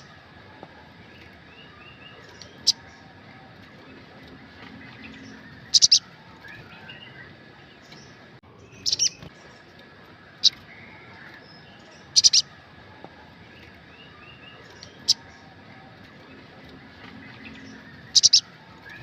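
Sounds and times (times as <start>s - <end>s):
bird chirping: 0.0s - 19.0s
faint bird twittering: 0.0s - 19.0s.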